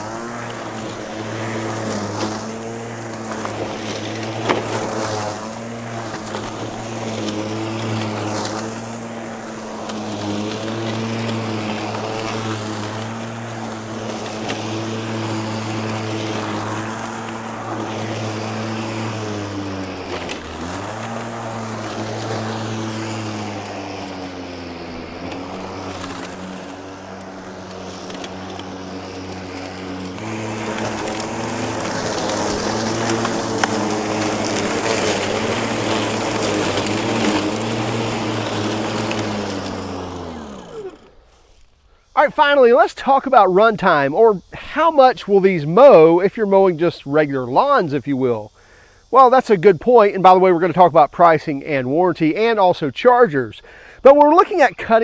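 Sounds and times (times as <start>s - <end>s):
lawn mower motor cutting grass: 0.0s - 55.0s.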